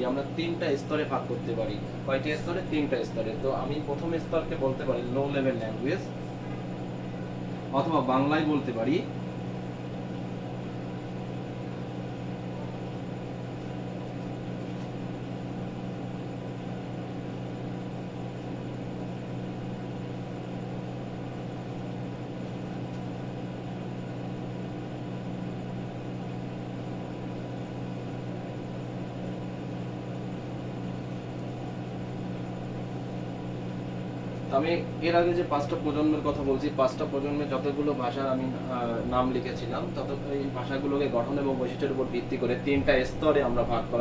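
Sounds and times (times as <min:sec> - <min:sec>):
machine hum with hiss: 0:00.0 - 0:44.0.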